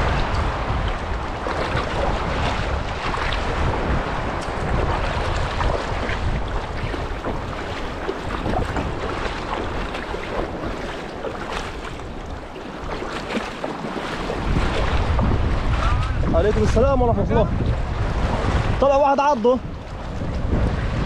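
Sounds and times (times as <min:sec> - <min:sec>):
shallow seawater lapping: 0:00.0 - 0:21.0
wind buffeting microphone: 0:00.0 - 0:21.0.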